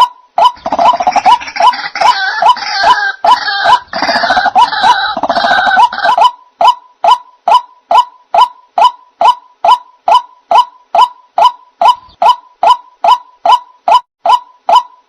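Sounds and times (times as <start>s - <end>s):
repeated short bird call: 0.0s - 15.0s.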